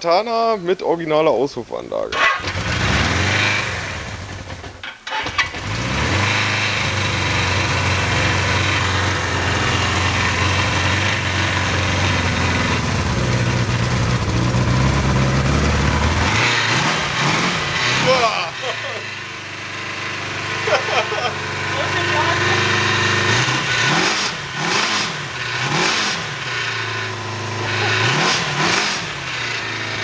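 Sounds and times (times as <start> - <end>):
motorcycle engine idling: 2.3 - 4.8, 6.8 - 16.4, 17.0 - 25.6, 26.2 - 30.0.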